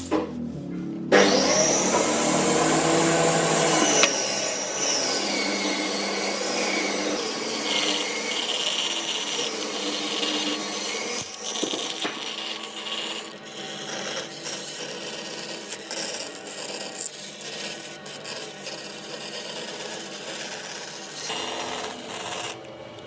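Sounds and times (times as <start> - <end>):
power tool motor whining on wood: 1.1 - 23.0.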